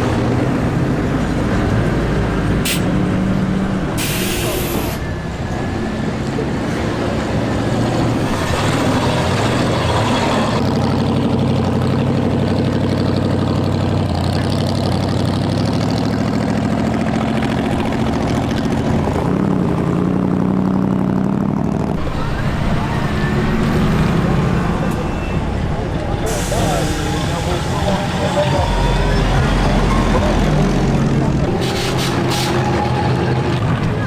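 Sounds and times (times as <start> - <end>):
truck engines running: 0.0 - 34.0.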